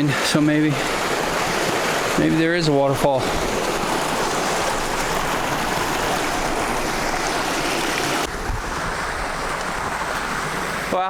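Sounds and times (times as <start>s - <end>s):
water rushing down creek cascade: 0.0s - 11.0s.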